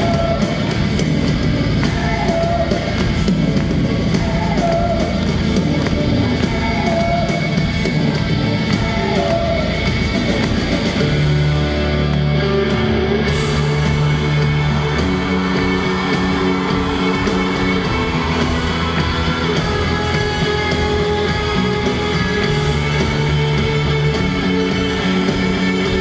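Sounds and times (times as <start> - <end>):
electric guitar: 0.0 - 26.0
live rock band: 0.0 - 26.0.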